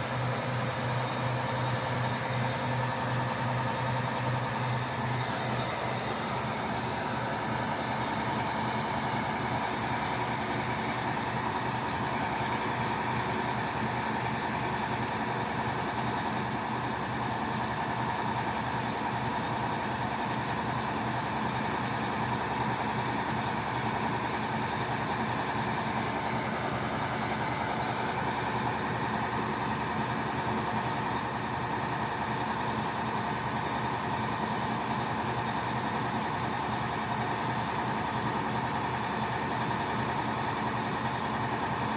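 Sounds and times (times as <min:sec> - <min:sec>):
drilling rig engine droning: 0:00.0 - 0:41.9.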